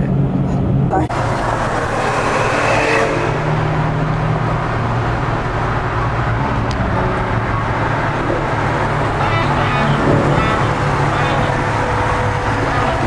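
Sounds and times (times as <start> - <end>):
tyre and road noise: 0.8 - 13.0.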